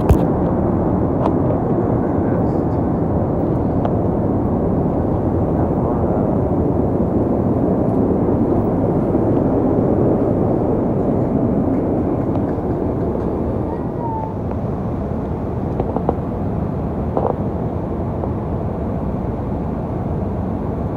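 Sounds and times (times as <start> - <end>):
airplane engine noise: 0.0 - 20.9.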